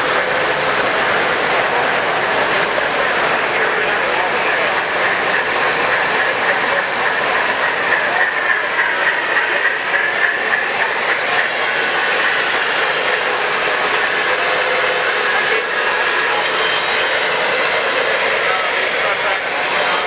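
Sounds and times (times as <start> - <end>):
model train running: 0.0 - 20.0.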